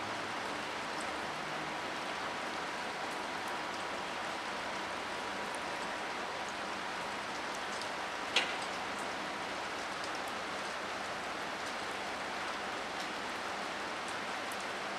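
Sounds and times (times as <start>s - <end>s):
rain on wet pavement: 0.0s - 14.9s.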